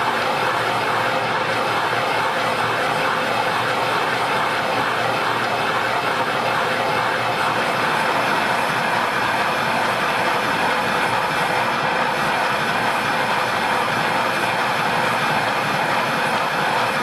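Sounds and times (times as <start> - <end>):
folding machine running: 0.0 - 17.0.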